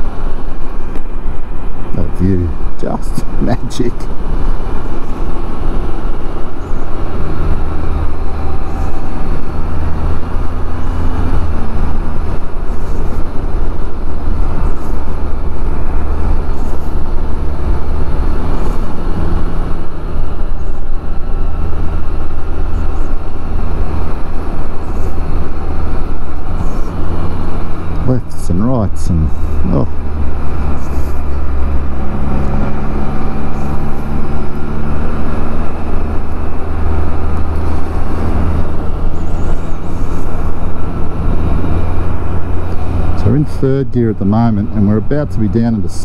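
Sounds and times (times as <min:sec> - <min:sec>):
motorcycle engine running: 0:00.0 - 0:46.0
wind rush on microphone: 0:00.0 - 0:46.0.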